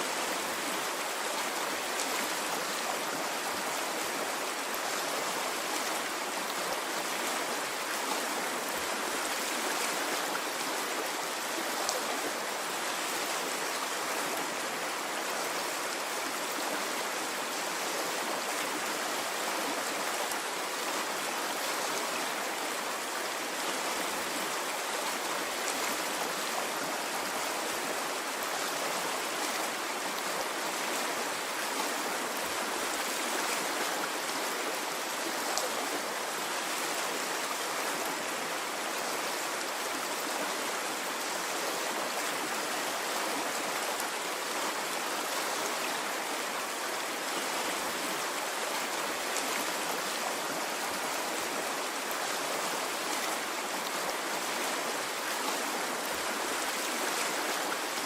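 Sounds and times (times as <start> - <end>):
water stream flowing: 0.0 - 58.0.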